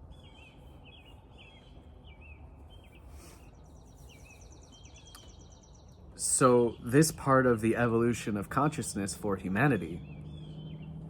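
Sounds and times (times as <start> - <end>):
low steady hiss: 0.0 - 9.9
bird chirping: 0.0 - 11.0.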